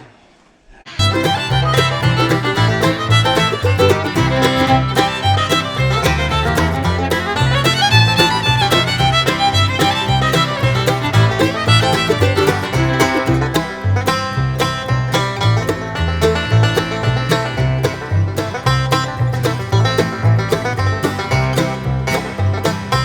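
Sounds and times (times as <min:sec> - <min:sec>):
fiddle: 0:00.9 - 0:23.0
banjo: 0:01.0 - 0:23.0
steady bass beat: 0:01.0 - 0:23.0
upbeat bluegrass music: 0:01.0 - 0:23.0.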